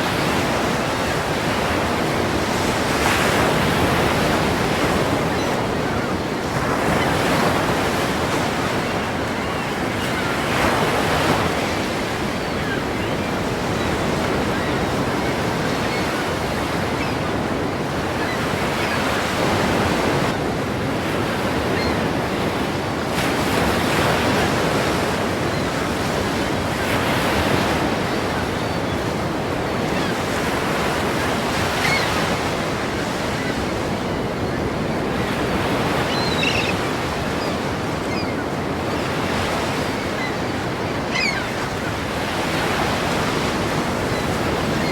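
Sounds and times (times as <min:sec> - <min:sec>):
ocean surf: 0:00.0 - 0:44.9.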